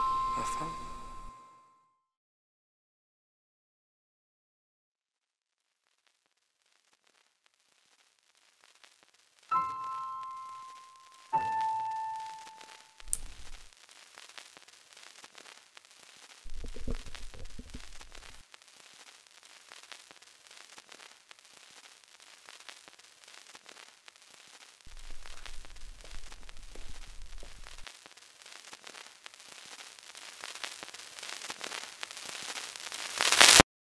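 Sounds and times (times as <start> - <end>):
crackling hiss: 0.0 - 1.4, 5.6 - 33.6.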